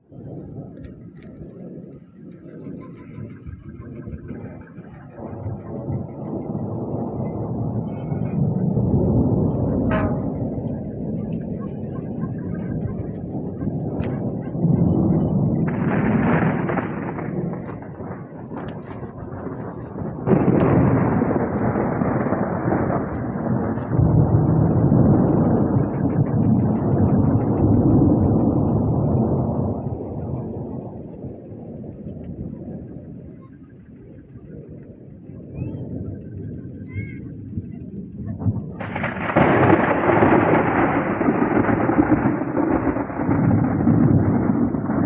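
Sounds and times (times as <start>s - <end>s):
thunder rumbling: 0.0s - 45.0s.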